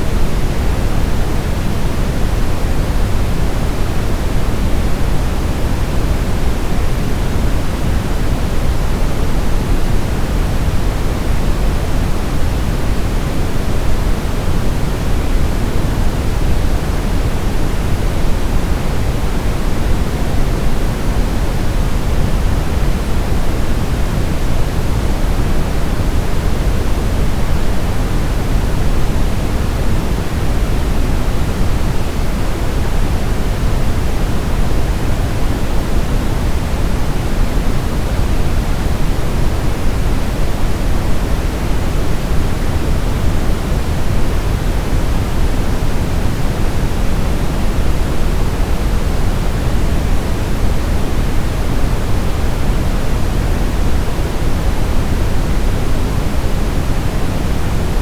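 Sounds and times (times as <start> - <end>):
white noise rush: 0.0 - 58.0.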